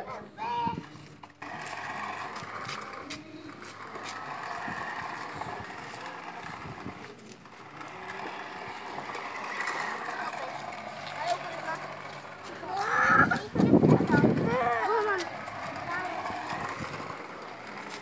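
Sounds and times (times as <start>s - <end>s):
toy car motor whirring: 0.0s - 18.0s.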